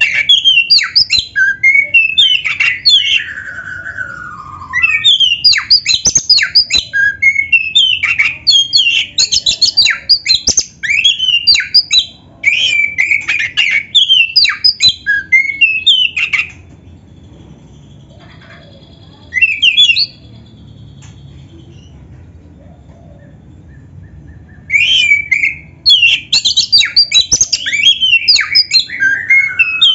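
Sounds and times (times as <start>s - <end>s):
magpie-robin singing: 0.0s - 16.7s, 17.8s - 22.0s, 22.8s - 29.9s.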